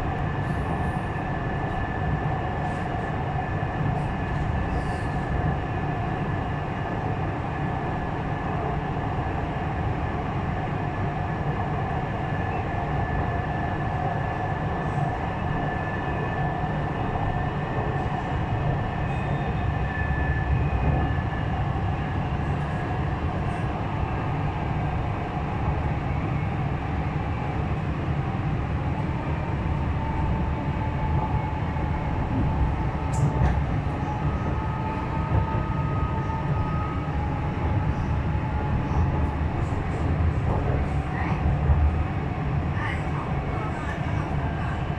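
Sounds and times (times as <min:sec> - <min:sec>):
train rumbling: 0:00.0 - 0:44.9.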